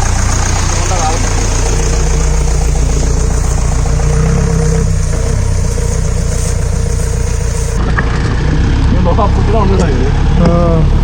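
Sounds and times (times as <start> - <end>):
car engine running low revs: 0.0 - 11.0.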